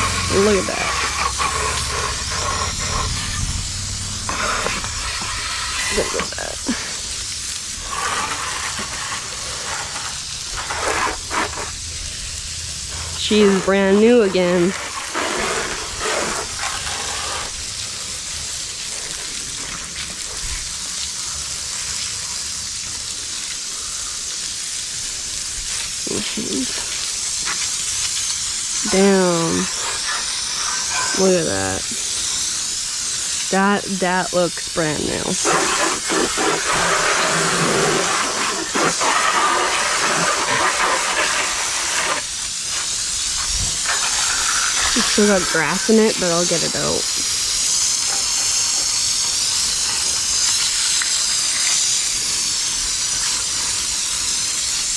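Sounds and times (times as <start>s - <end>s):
water spraying: 0.0s - 54.9s.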